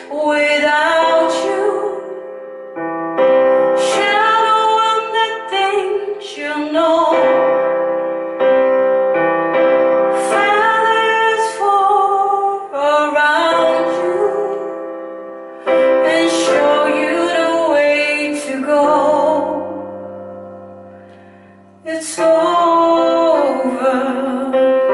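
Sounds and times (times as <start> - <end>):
woman singing: 0.0 - 2.8, 3.6 - 8.0, 10.0 - 20.2, 21.8 - 24.9
keyboard chords: 0.0 - 24.9.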